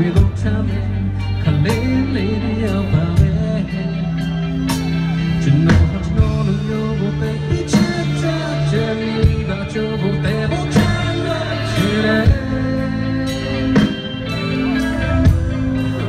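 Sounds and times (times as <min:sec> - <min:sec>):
electric guitar: 0:00.0 - 0:16.0
man singing: 0:00.0 - 0:16.0.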